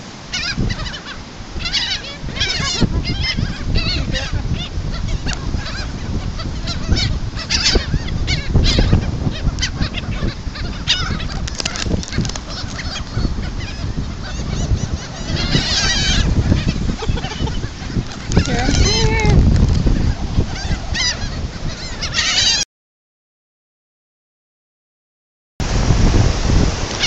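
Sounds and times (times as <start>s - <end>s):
gulls calling: 0.0s - 22.6s.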